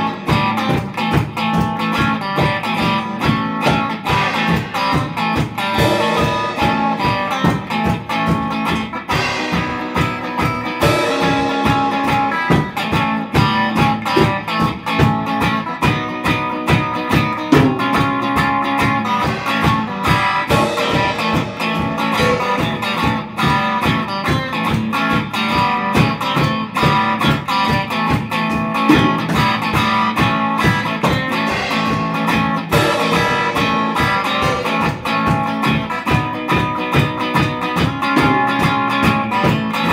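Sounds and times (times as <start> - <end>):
electric guitars playing: 0.0 - 39.9
fast drum beat: 0.0 - 39.9.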